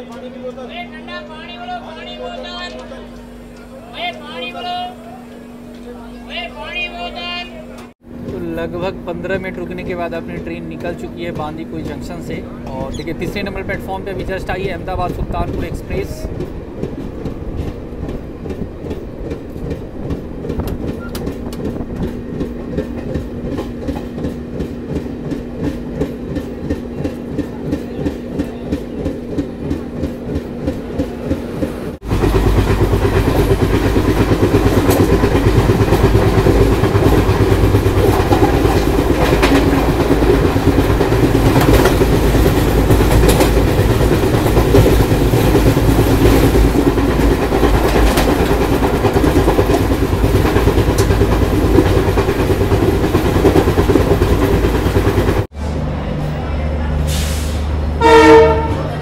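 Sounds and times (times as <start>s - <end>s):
train running rush: 0.0s - 59.0s
train wheels clicking over rail joints: 7.8s - 55.5s.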